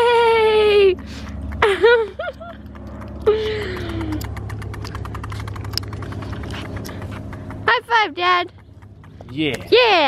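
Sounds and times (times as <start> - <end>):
tricycle rolling on asphalt: 0.0 - 10.0.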